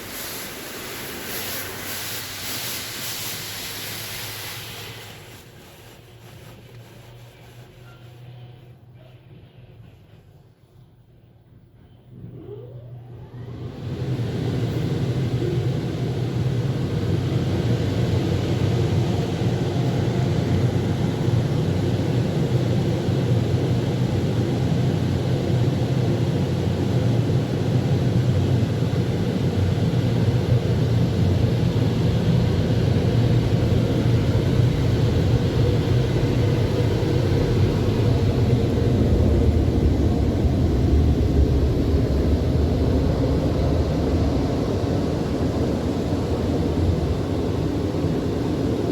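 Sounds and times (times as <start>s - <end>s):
car wash air blowers: 0.0s - 8.4s, 13.5s - 23.6s, 24.6s - 48.9s.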